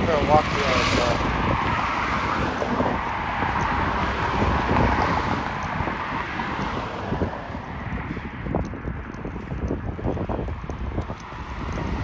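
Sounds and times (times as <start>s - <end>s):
road traffic noise: 0.0s - 12.0s
wind buffeting microphone: 0.0s - 12.0s.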